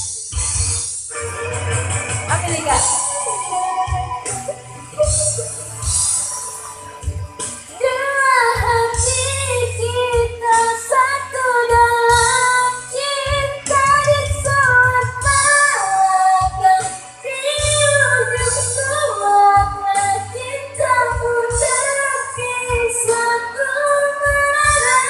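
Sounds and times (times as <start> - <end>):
musical backing with bass: 0.0 - 25.0.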